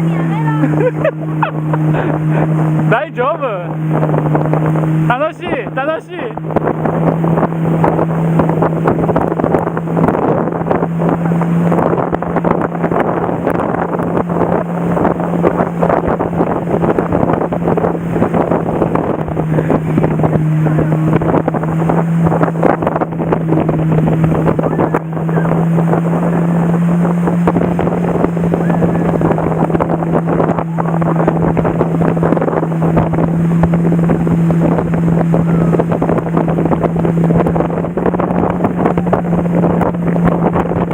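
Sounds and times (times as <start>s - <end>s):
motorboat engine droning: 0.0s - 40.9s
rushing water: 0.0s - 40.9s
wind buffeting microphone: 0.0s - 40.9s.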